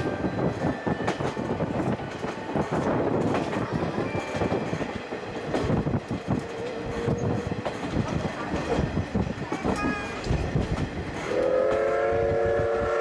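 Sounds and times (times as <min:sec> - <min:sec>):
train clacks and rattles: 0:00.0 - 0:13.0
train wheels rumbling: 0:00.0 - 0:13.0.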